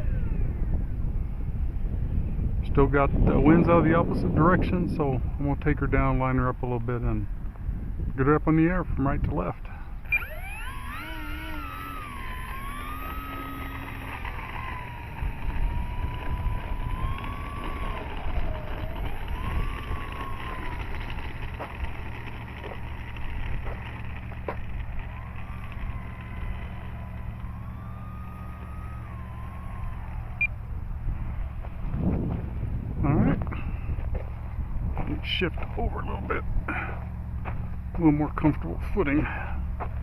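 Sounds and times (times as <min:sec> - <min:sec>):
model plane motor whining: 0:00.0 - 0:02.6, 0:08.7 - 0:40.0
wind rumble on microphone: 0:00.0 - 0:40.0.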